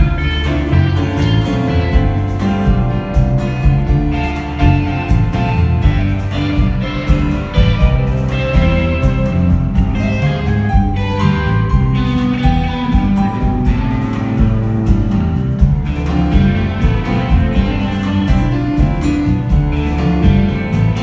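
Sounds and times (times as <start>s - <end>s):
bass guitar: 0.0s - 21.0s
drums with steady beat: 0.0s - 21.0s
electric guitars: 0.0s - 21.0s.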